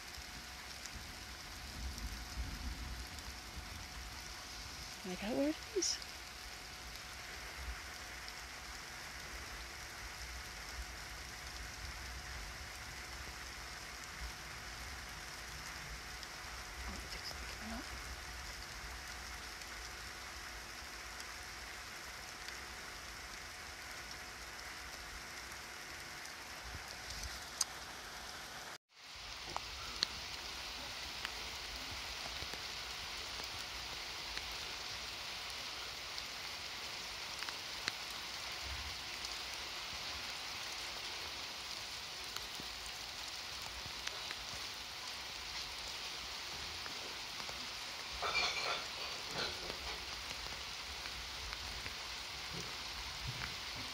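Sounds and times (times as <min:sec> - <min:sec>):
light rain falling: 0:00.0 - 0:53.9.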